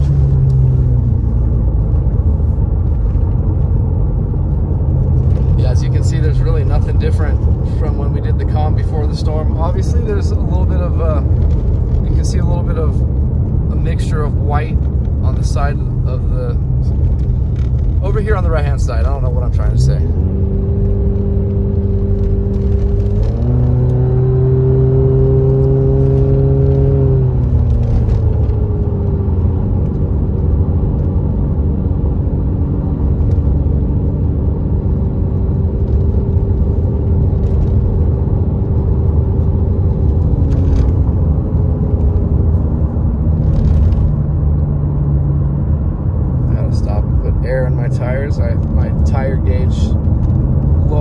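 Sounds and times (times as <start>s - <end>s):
car engine: 0.0s - 51.0s
road rumble: 0.0s - 51.0s.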